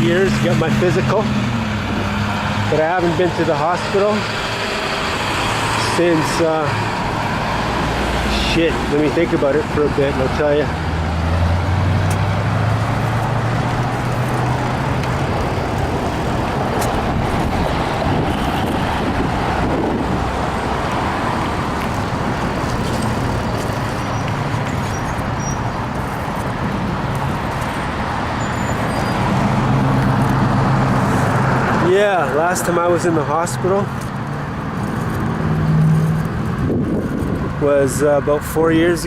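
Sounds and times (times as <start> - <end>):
low engine hum: 0.0 - 31.8
vehicles passing on road: 0.0 - 39.0.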